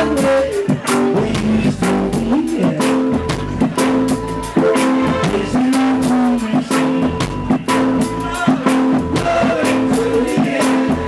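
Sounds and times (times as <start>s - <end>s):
drum kit beat: 0.0s - 11.0s
reggae band playing: 0.0s - 11.0s.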